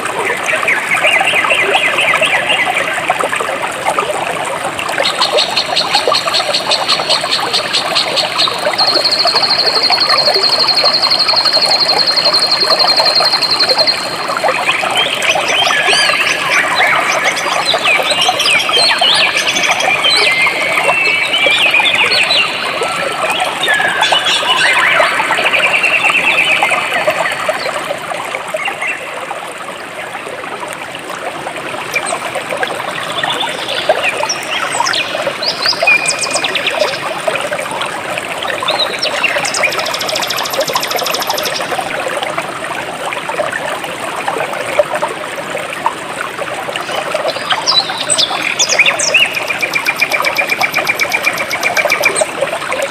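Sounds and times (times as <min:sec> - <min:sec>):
stream water flowing: 0:00.0 - 0:52.9.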